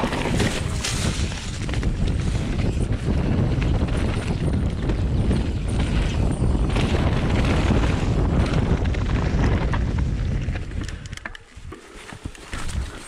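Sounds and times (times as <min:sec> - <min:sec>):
bike tyres rolling on gravel: 0:00.0 - 0:13.0
wind buffeting camera: 0:00.0 - 0:13.0.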